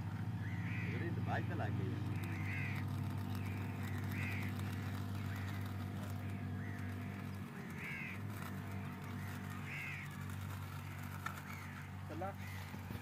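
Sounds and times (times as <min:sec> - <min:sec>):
steady low hum: 0:00.0 - 0:13.0
crows cawing: 0:00.3 - 0:13.0.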